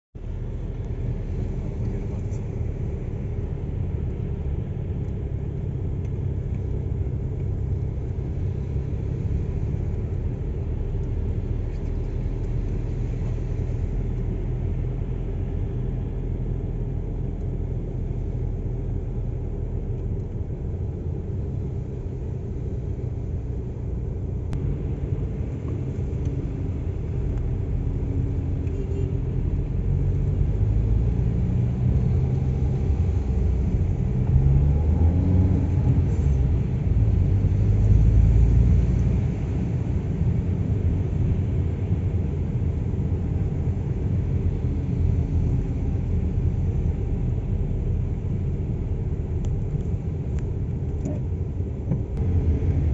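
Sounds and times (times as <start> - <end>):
car engine rumble: 0.2 - 52.9
road noise: 0.2 - 52.9.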